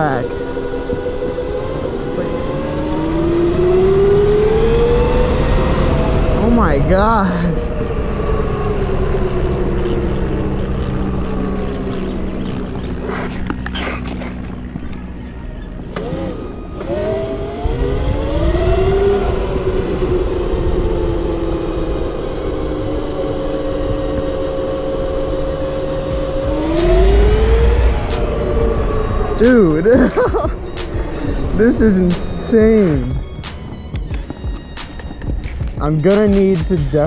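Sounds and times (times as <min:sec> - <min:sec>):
wind rumbling on microphone: 0:00.0 - 0:16.0, 0:17.1 - 0:36.5
electric motor whine: 0:00.0 - 0:36.6.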